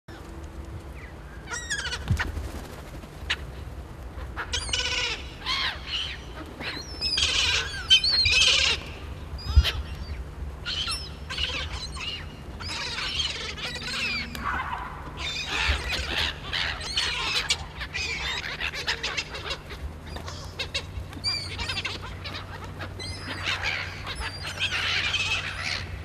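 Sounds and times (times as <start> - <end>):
gulls calling: 0.9 - 26.0.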